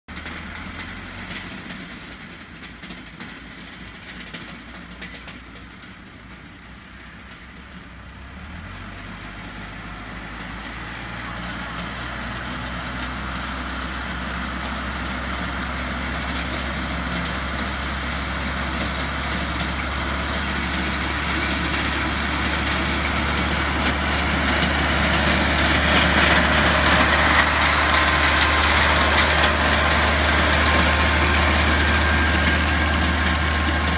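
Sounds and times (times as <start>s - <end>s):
tractor engine humming: 0.1s - 33.9s.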